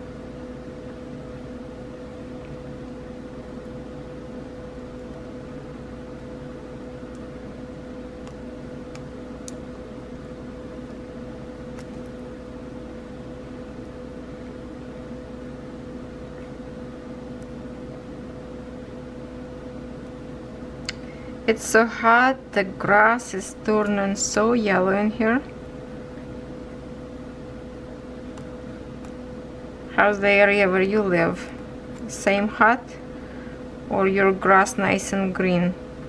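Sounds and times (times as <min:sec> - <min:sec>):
steady motor hum: 0:00.0 - 0:36.0.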